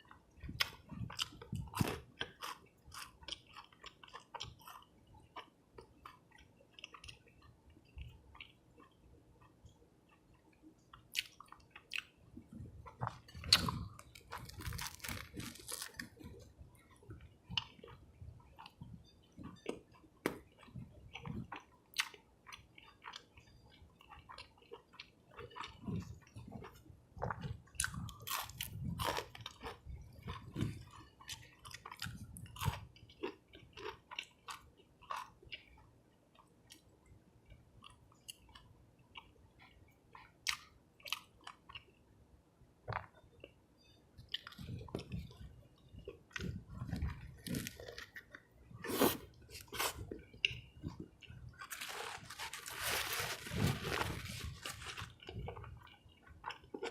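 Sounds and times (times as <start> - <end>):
food crunching: 0.0 - 36.9, 44.2 - 56.9
person chewing food: 0.0 - 42.1, 42.9 - 56.9.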